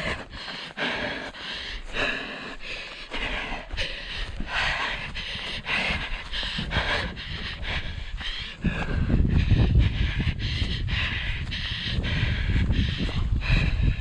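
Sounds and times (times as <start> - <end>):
runner panting: 0.0 - 14.0
wind rumbling on microphone: 0.0 - 14.0.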